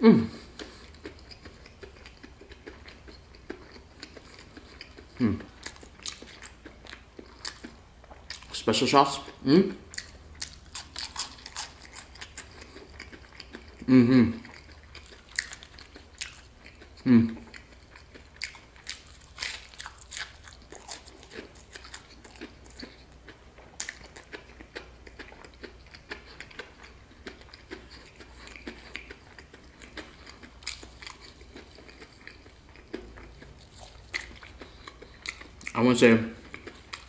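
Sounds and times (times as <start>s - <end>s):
crunchy fried chicken chewing: 0.4s - 37.0s.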